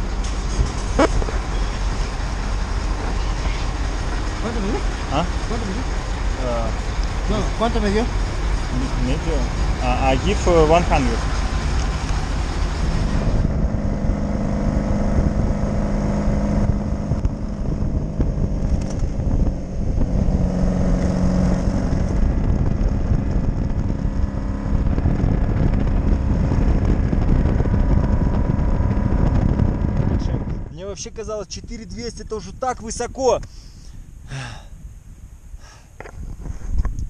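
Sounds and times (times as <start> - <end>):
motorcycle engine running: 0.0 - 30.7
wind rushing over microphone: 0.0 - 37.0.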